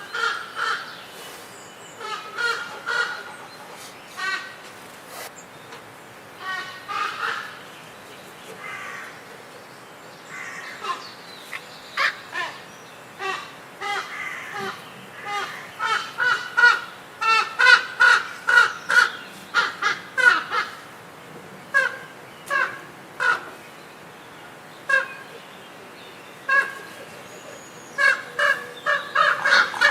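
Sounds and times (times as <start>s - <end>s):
birds calling: 0.0s - 29.9s.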